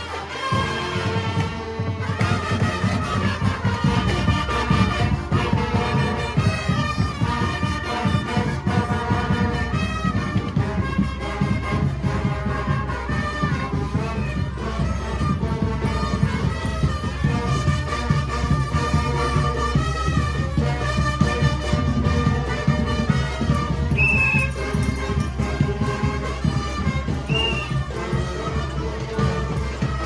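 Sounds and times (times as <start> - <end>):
brass horns: 0.0 - 30.0
steady drum beat: 0.1 - 30.0.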